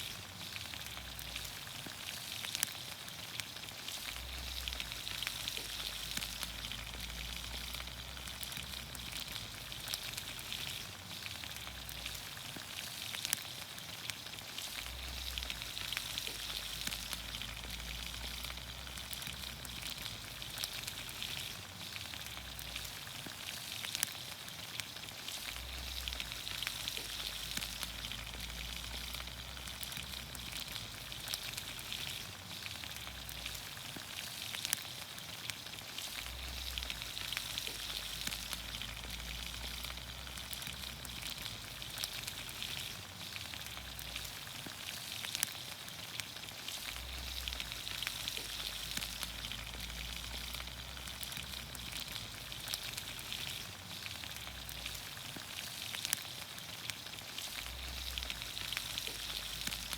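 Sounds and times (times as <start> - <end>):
sharp crackles: 0.0 - 59.9
vegetables sizzling in oil: 0.0 - 59.9.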